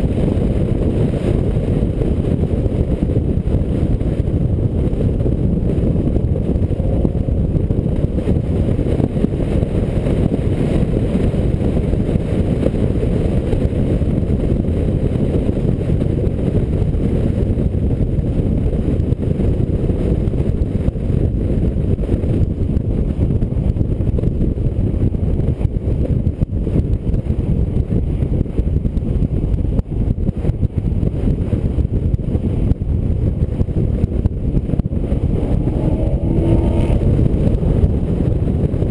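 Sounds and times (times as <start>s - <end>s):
wind buffeting and road noise: 0.0s - 38.9s.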